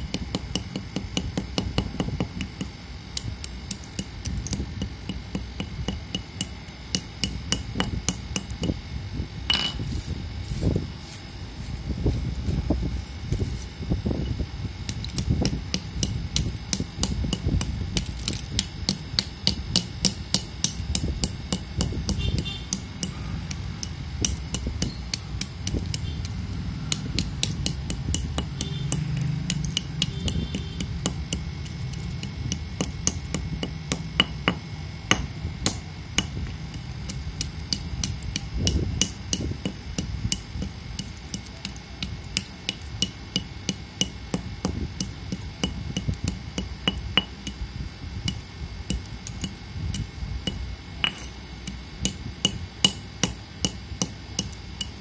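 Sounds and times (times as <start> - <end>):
steel tool striking clay: 0.1 - 8.8, 9.5 - 9.9, 14.9 - 47.6, 48.2 - 55.0.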